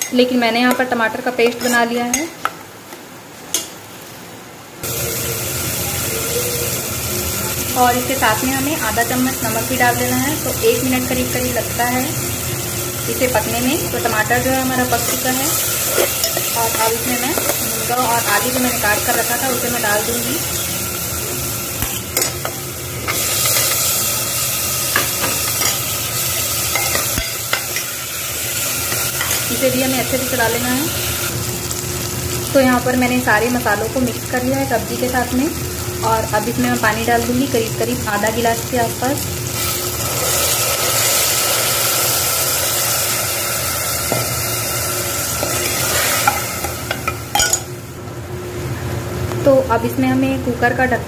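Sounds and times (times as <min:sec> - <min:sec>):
vegetables sizzling in hot oil: 0:04.8 - 0:48.0.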